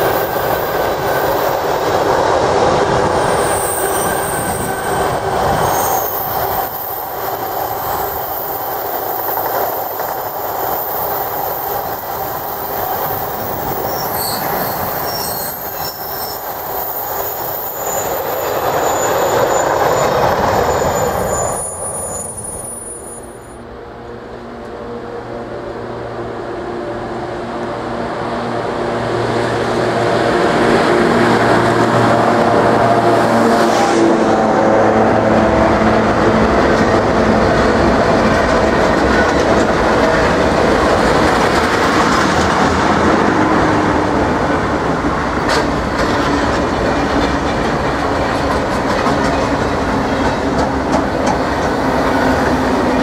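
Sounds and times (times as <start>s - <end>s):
electric locomotive hum: 0.0s - 53.0s
train wheels rumbling on rails: 0.0s - 53.0s.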